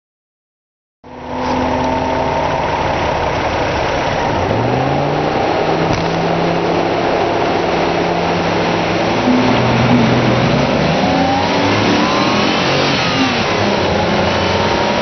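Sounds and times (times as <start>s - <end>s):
road noise: 1.0s - 15.0s
car engine revving: 1.1s - 15.0s.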